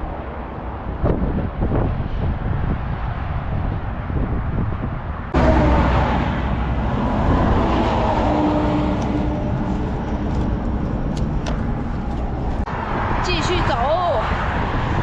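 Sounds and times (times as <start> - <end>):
traffic passing: 0.0 - 15.0.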